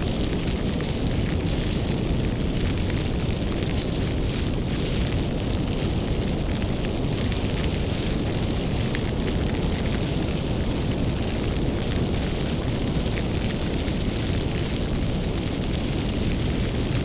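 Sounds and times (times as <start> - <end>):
fire crackles and pops: 0.0 - 17.0
wood fire burning: 0.0 - 17.0.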